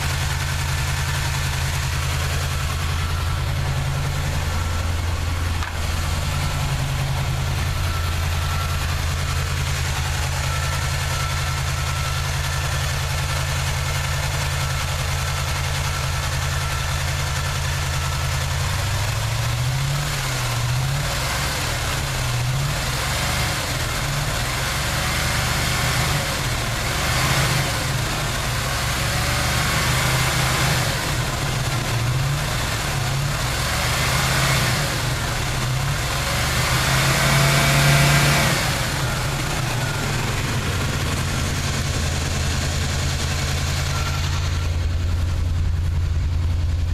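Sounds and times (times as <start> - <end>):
truck engine idling and revving: 0.0 - 46.9.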